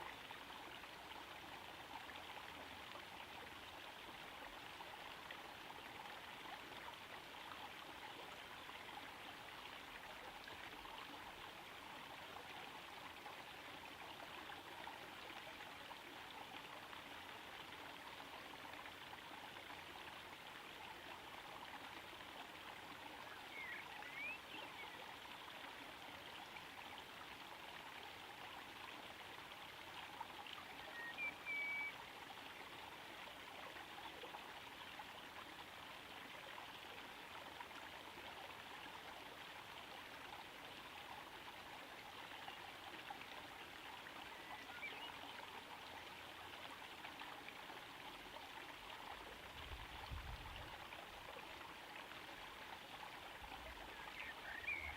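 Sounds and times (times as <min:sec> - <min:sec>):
waterfall trickling into pond: 0:00.0 - 0:54.9.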